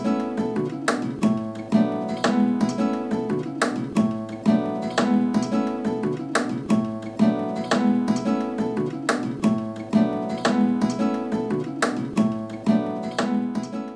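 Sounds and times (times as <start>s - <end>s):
acoustic guitar strumming chords: 0.0s - 13.9s.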